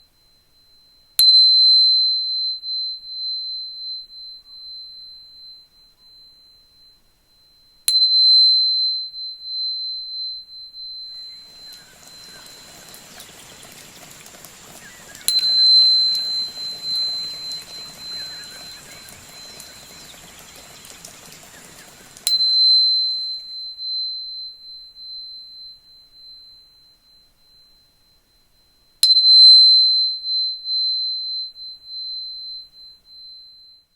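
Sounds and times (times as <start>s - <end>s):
tuning fork ringing: 0.0s - 33.9s.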